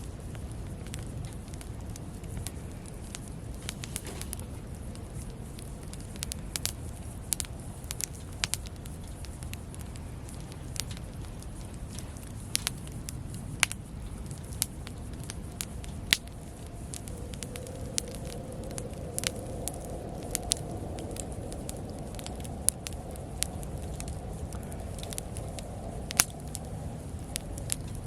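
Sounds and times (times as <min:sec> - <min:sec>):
campfire crackling: 0:00.0 - 0:28.0
faint steady hum: 0:00.0 - 0:28.0.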